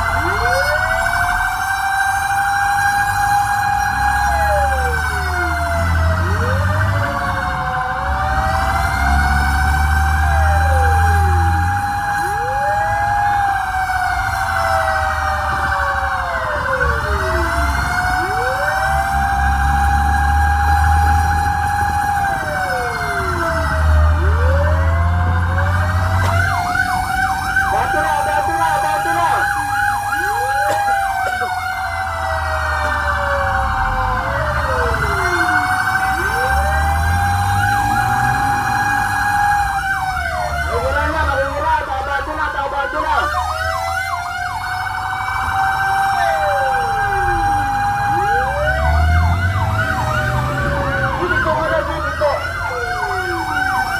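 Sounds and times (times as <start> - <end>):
fire truck sirens: 0.0 - 53.9
truck engine rumble: 0.0 - 53.9.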